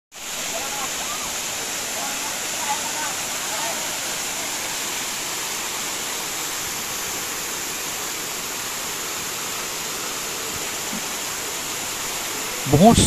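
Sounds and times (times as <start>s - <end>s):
waterfall rushing: 0.2s - 13.0s.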